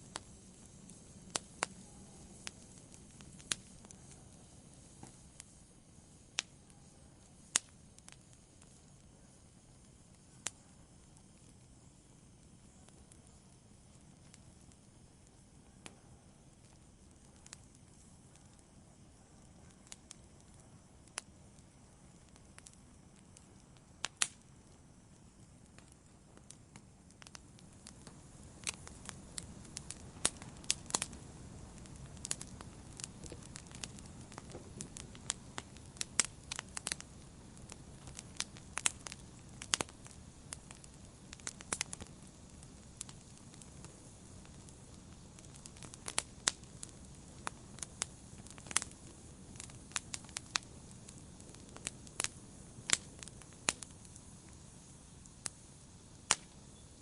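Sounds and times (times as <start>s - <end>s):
low rush of flame: 0.0s - 57.0s
wood fire crackling and popping: 0.0s - 57.0s.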